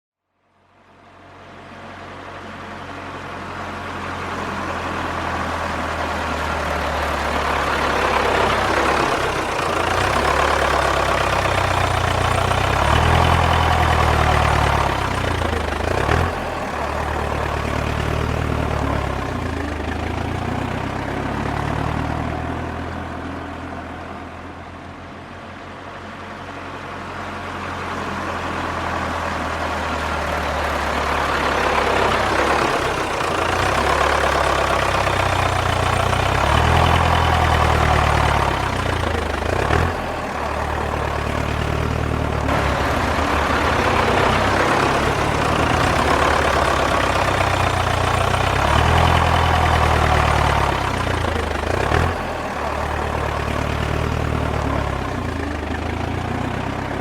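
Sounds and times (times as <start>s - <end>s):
tractor engine throbbing: 1.3s - 57.0s.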